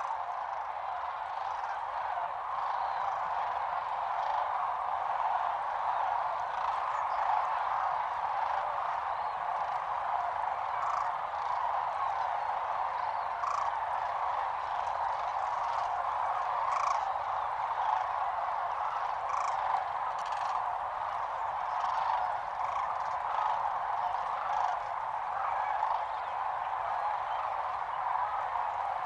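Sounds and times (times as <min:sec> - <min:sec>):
flock of cranes calling: 0:00.0 - 0:29.0.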